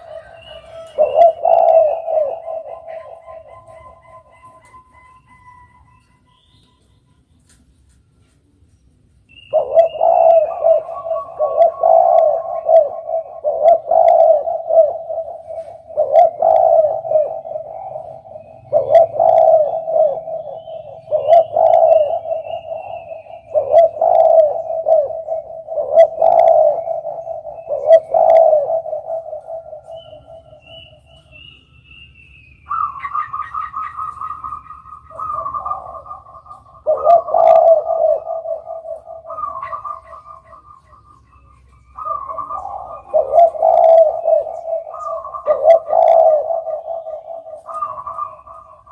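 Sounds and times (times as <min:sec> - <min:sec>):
dove cooing: 0:00.0 - 0:06.6, 0:09.3 - 0:31.6, 0:32.6 - 0:48.9.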